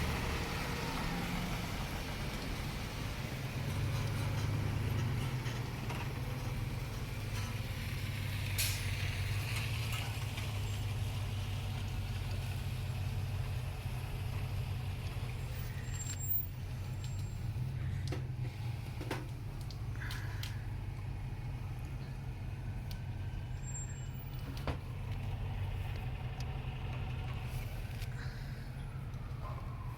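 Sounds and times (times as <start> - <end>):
large vehicle engine rumbling: 0.0 - 29.9.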